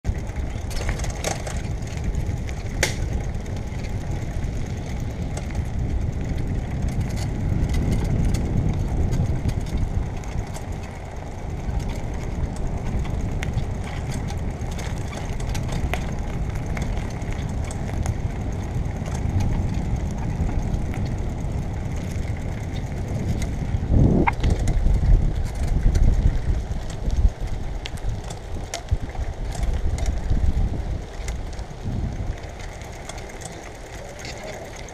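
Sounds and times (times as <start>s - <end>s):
bicycle tyres rumbling: 0.0s - 34.9s
small clicks and ticks: 0.1s - 34.9s.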